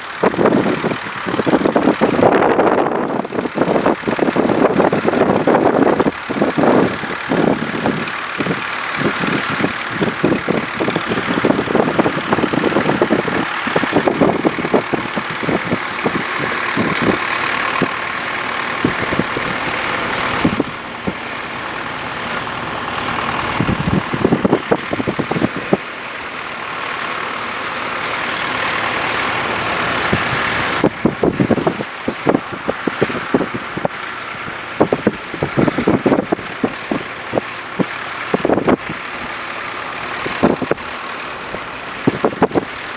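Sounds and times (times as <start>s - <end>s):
tractor engine running under load: 0.0s - 42.9s
wind buffeting microphone: 0.2s - 27.0s, 28.1s - 42.9s.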